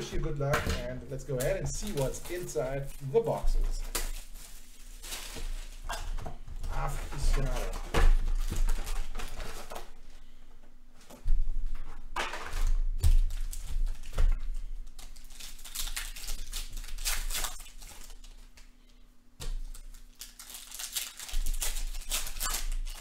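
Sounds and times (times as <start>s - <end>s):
cardboard and wrapper rustling: 0.0s - 10.2s, 11.2s - 18.7s, 19.5s - 23.0s.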